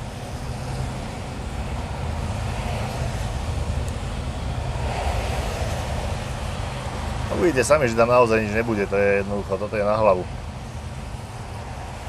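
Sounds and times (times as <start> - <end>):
lorry diesel engine rumble: 0.0 - 12.0
road noise: 0.0 - 12.0.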